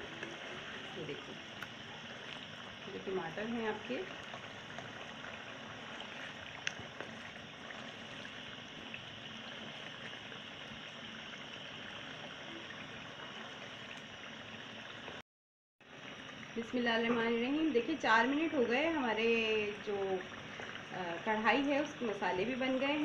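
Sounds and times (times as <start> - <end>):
food sizzling and bubbling in oil: 0.0 - 15.2, 15.8 - 23.0.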